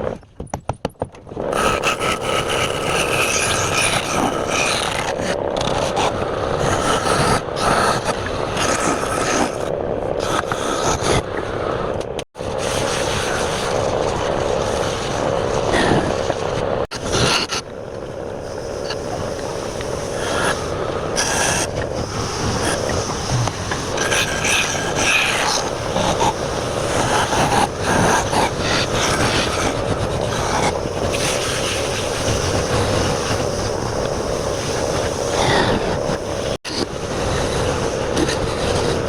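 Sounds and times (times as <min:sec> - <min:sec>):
turning tool scraping wood: 0:01.1 - 0:17.8, 0:18.4 - 0:39.0.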